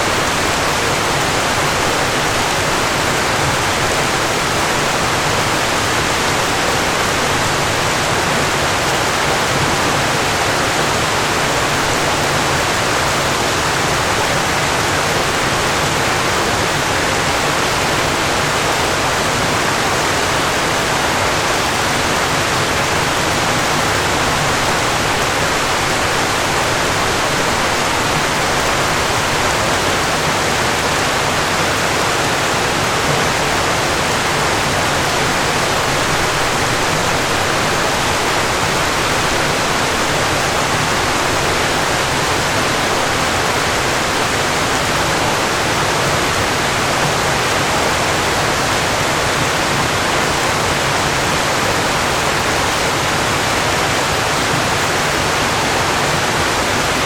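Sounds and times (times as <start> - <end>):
falling water rushing: 0.0 - 57.0.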